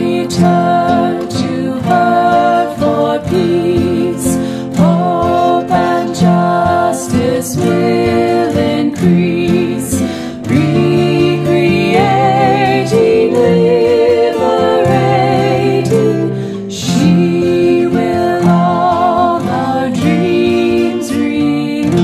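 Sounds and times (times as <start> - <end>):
instrumental accompaniment: 0.0 - 22.0
women singing a hymn in harmony: 0.0 - 22.0.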